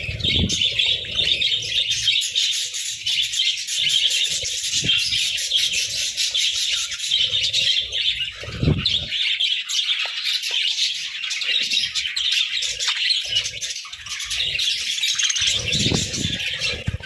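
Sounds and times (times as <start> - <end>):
budgerigars chattering and chirping: 0.0 - 17.0.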